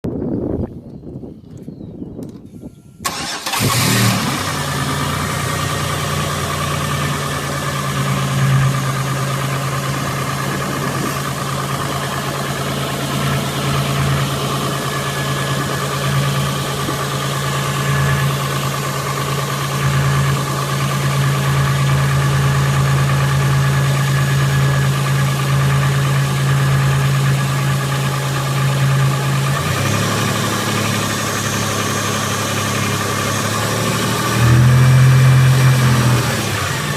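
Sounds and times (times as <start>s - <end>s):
car engine starting and idling: 3.0s - 36.9s.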